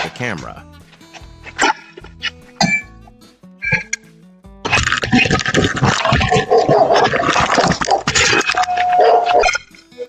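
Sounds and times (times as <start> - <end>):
background music with steady tones: 0.0 - 10.0.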